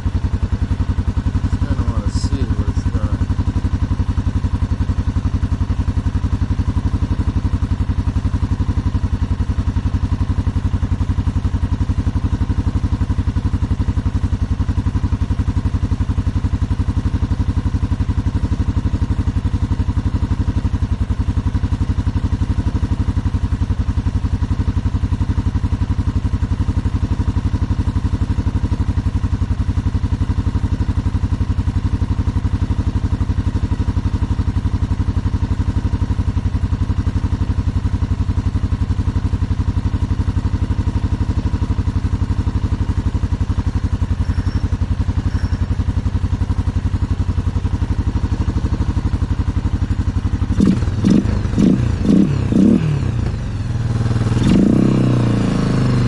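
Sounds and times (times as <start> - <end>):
quad bike engine idling: 0.0 - 56.0.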